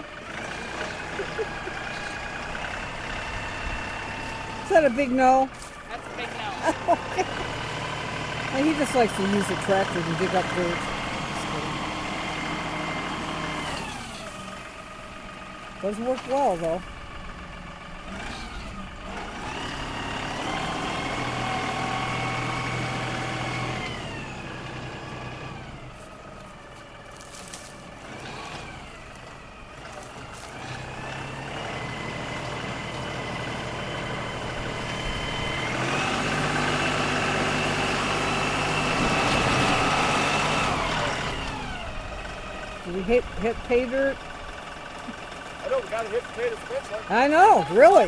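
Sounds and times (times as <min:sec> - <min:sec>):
tractor engine under load: 0:00.0 - 0:48.0.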